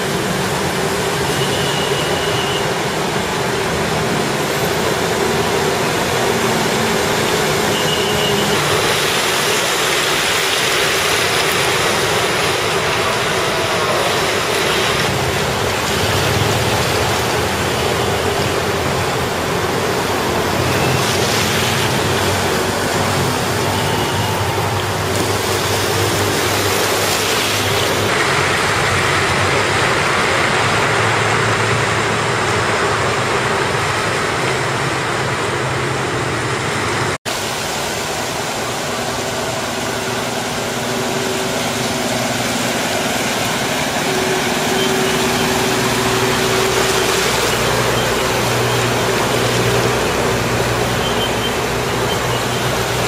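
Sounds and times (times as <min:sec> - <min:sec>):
vehicle engines running: 0:00.0 - 0:53.0
water splashing around wheels: 0:00.0 - 0:53.0.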